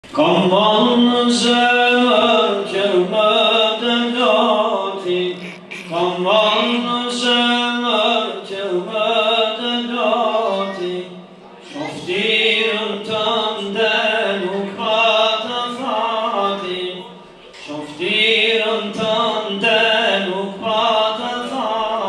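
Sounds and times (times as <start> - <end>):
man singing unaccompanied hymn: 0.1 - 22.0.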